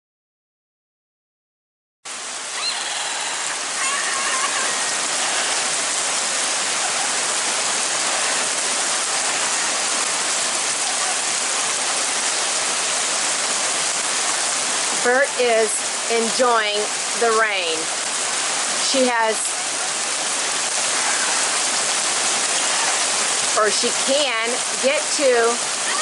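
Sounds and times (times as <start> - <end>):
heavy rain pouring: 2.1 - 26.0.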